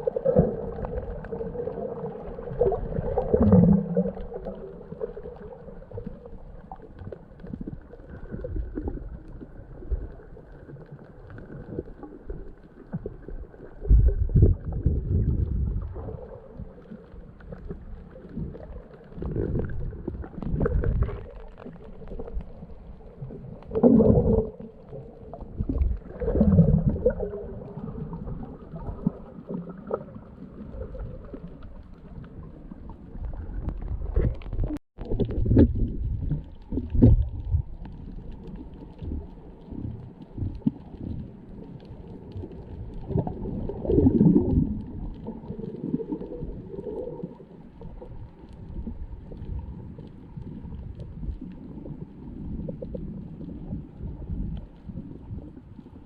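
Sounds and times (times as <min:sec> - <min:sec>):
muffled underwater gurgling: 0:00.0 - 0:56.0.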